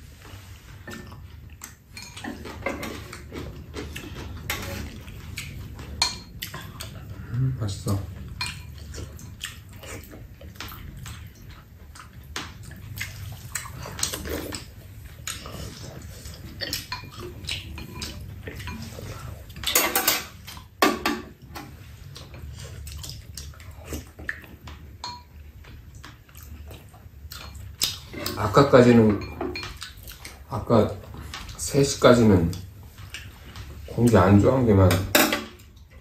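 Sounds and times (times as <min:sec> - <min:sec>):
slurping and chewing: 0:00.0 - 0:20.8, 0:21.4 - 0:34.2.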